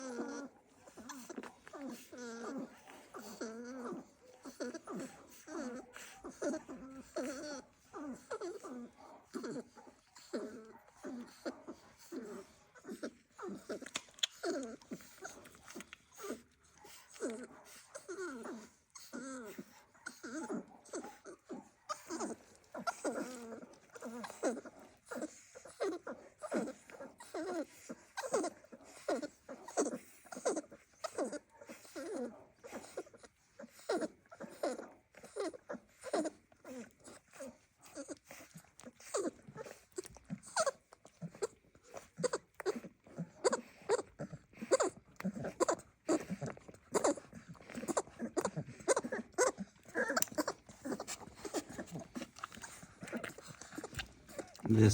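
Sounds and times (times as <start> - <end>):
dogs whining and whimpering: 0.0 - 54.9.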